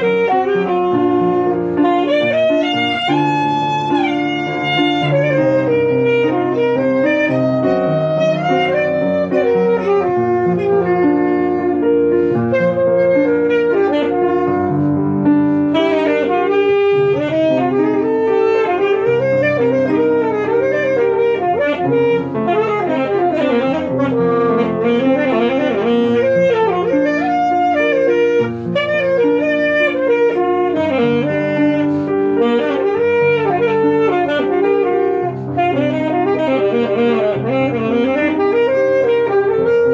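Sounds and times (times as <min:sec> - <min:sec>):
alto saxophone melody: 0:00.0 - 0:39.9
piano chords: 0:00.0 - 0:39.9.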